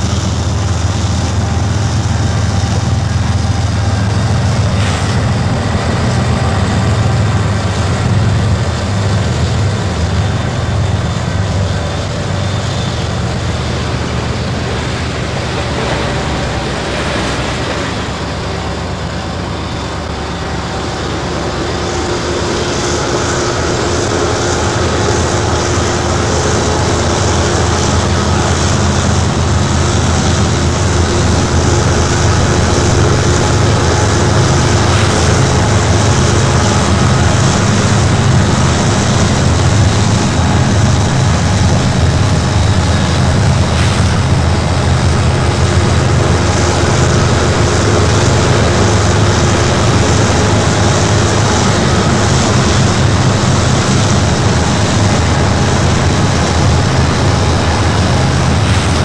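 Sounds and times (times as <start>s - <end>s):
diesel locomotive engines droning: 0.0s - 59.0s
freight cars rumbling over rails: 0.0s - 59.0s.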